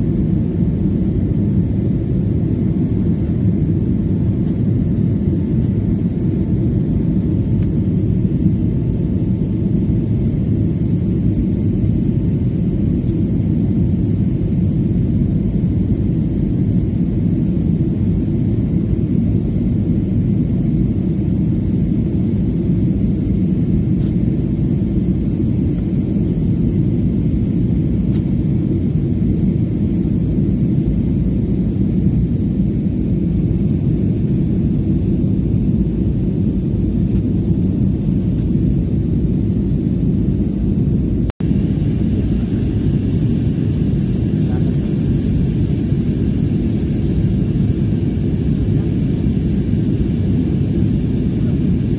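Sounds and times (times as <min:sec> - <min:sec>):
jet engine roar in cabin: 0:00.0 - 0:51.9.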